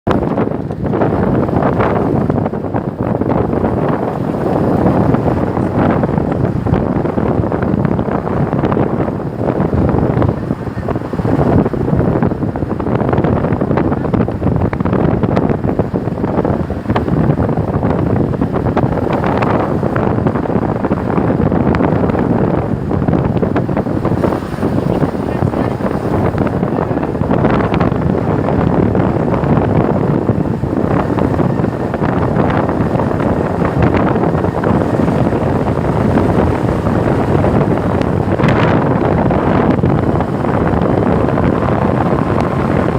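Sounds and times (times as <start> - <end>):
wind buffeting microphone: 0.1 - 42.9.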